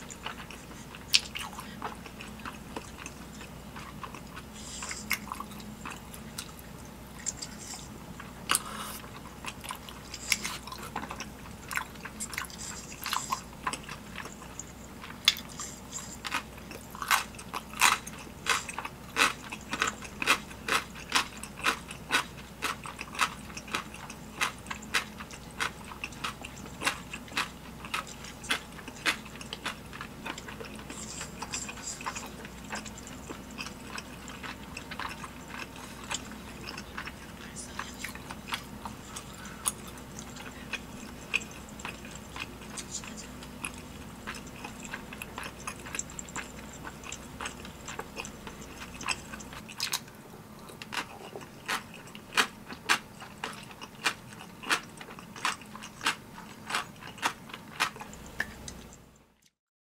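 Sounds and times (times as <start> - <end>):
low background hum: 0.0 - 59.6
person chewing close up: 0.0 - 59.6.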